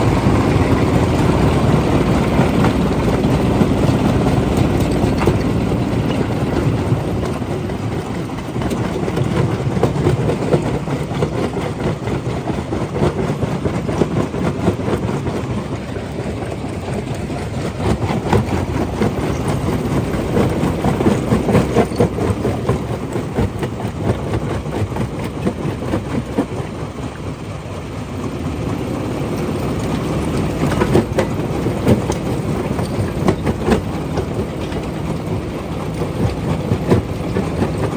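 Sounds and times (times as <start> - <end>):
rock crushing machine running: 0.0 - 37.9.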